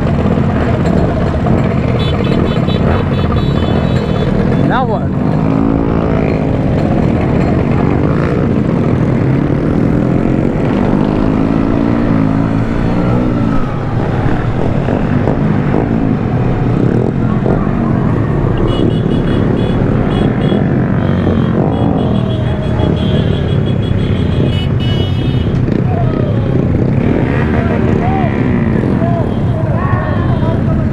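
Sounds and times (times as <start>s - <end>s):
motorcycle engines: 0.0s - 30.9s
wind and road noise: 0.0s - 30.9s.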